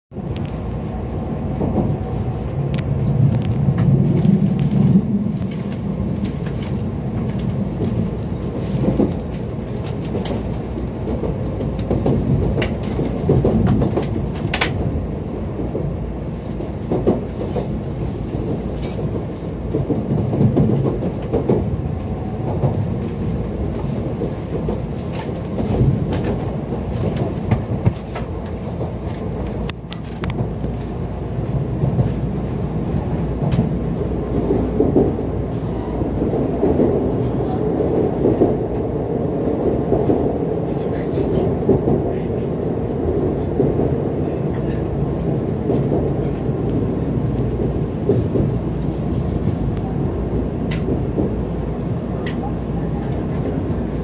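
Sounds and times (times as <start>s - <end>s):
train low rumble: 0.1s - 54.0s
wheels clicking and knocking on rails: 2.8s - 49.6s.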